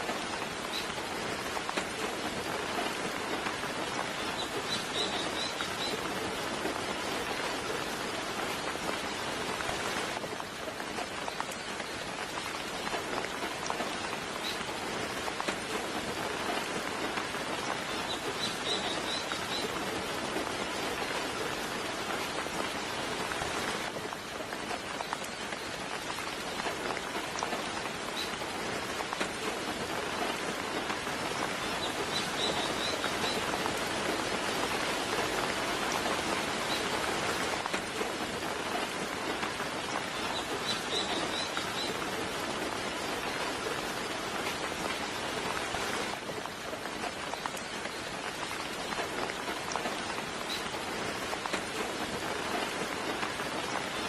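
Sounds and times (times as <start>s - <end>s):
soft rain falling: 0.0s - 54.0s.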